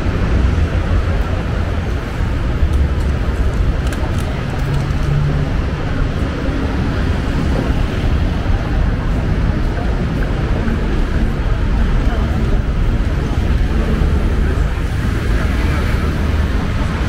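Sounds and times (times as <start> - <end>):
indistinct voices of passers-by: 0.0 - 17.0
low rumble of passing traffic: 0.0 - 17.0.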